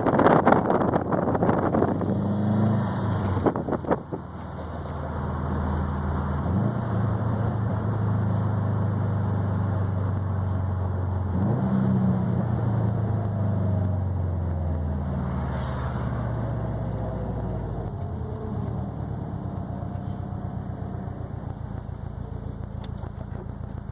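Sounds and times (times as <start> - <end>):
car engine droning: 0.0 - 23.9.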